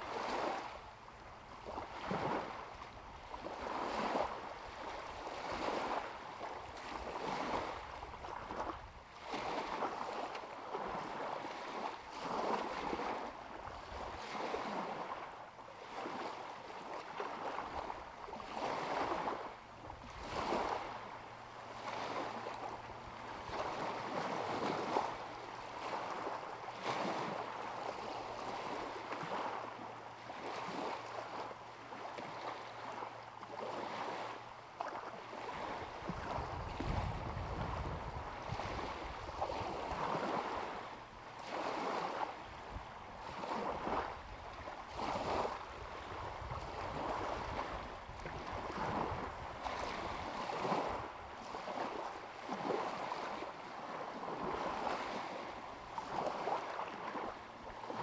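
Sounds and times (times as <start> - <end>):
waves lapping against shore: 0.0 - 58.0.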